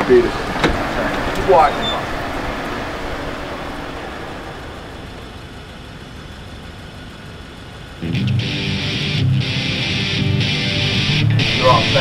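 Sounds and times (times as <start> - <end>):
street traffic rushing: 0.0 - 12.0.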